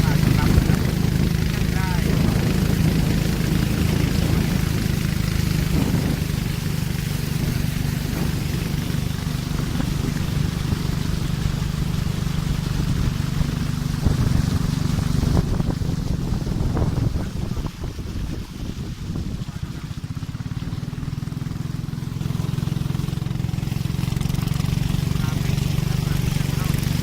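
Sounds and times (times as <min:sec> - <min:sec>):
boat engine humming: 0:00.0 - 0:27.0
rushing wind: 0:00.0 - 0:27.0
water noise: 0:00.0 - 0:27.0.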